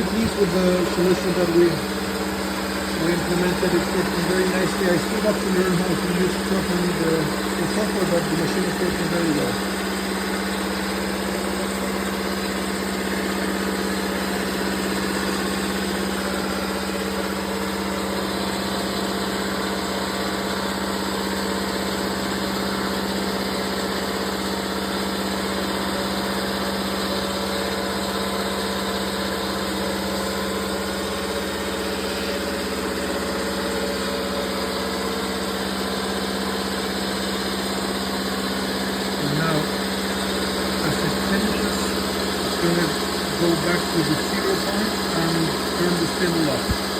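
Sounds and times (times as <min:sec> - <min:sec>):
lathe motor humming: 0:00.0 - 0:46.9.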